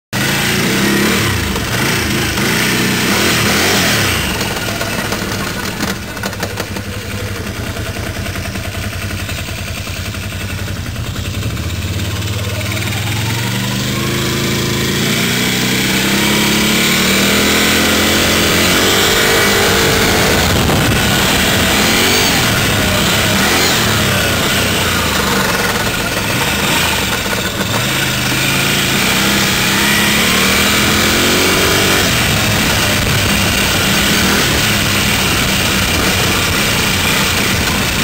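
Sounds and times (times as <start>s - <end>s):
atv engine idling and revving: 0.1s - 38.0s.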